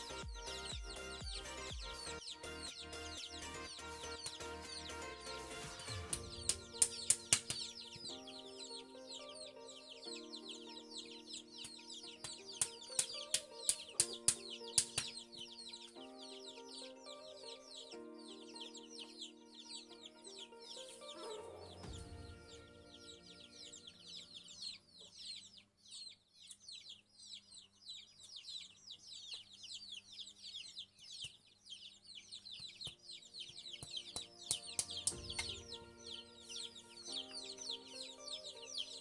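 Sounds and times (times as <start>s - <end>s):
soft music of held chords: 0.0s - 25.6s, 32.8s - 39.0s
chickens chirping and clucking: 0.0s - 39.0s.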